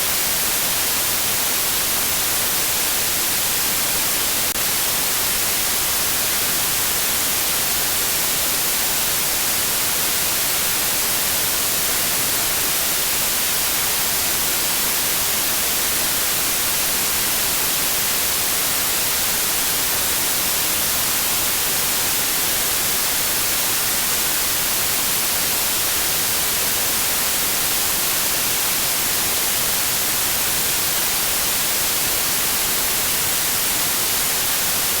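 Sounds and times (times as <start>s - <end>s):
white noise hiss: 0.0s - 35.0s.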